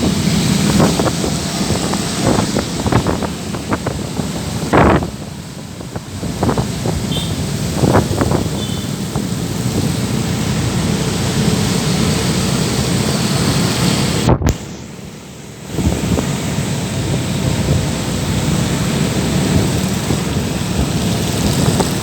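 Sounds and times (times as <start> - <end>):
heavy rain: 0.0 - 22.0
low traffic rumble: 0.0 - 22.0.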